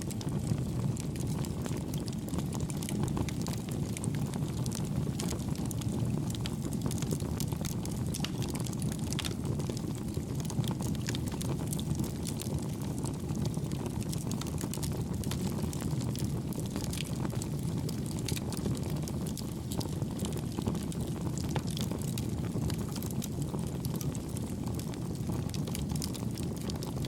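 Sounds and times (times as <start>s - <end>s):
rumble of flames: 0.0s - 27.0s
wood crackling and popping: 0.1s - 27.0s.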